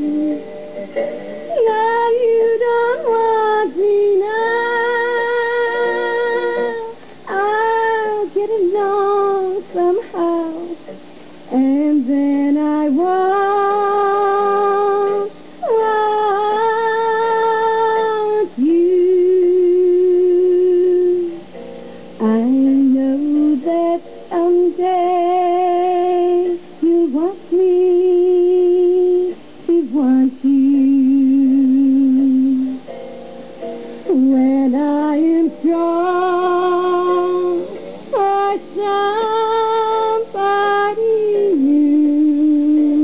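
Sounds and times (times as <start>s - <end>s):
woman singing wordless notes: 0.0s - 0.5s, 1.4s - 21.6s, 22.2s - 32.9s, 34.0s - 43.0s.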